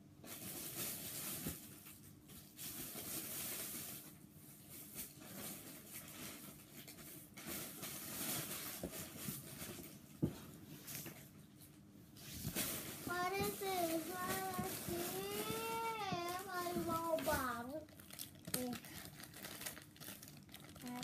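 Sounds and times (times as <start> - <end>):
plastic packaging crinkling: 0.2 - 10.1, 12.2 - 21.0.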